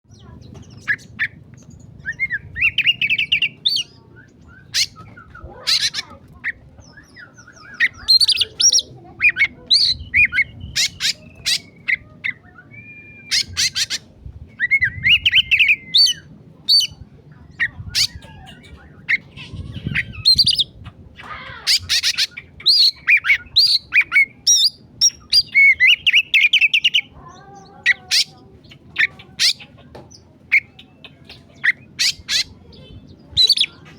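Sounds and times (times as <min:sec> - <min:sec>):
bird singing: 0:00.1 - 0:17.0, 0:17.6 - 0:33.9.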